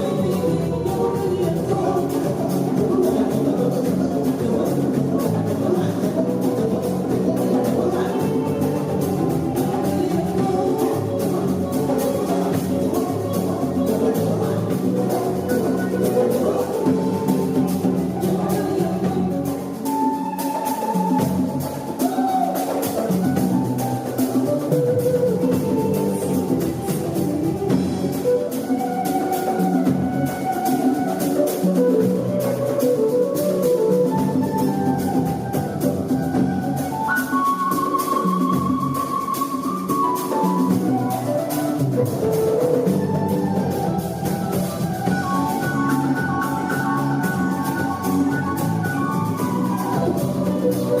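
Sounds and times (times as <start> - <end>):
drums and percussion beat: 0.0 - 51.0.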